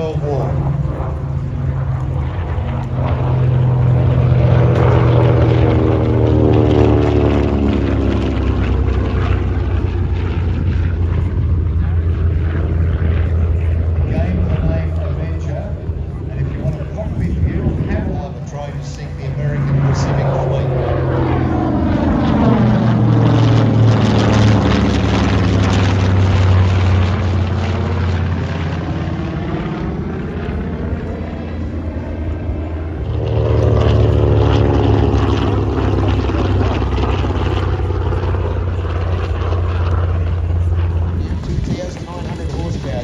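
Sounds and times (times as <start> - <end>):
propeller plane engine droning past: 0.0 - 43.0.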